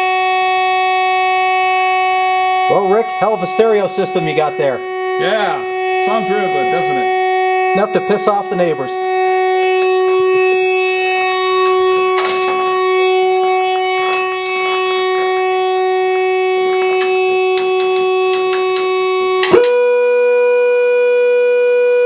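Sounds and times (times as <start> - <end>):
electric fog horn tone: 0.0 - 22.0.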